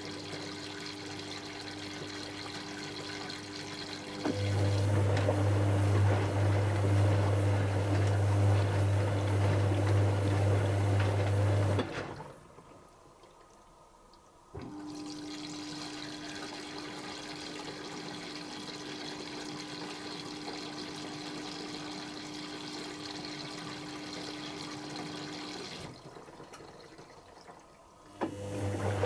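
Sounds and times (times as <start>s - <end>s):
washing machine water rushing in: 0.0s - 29.0s.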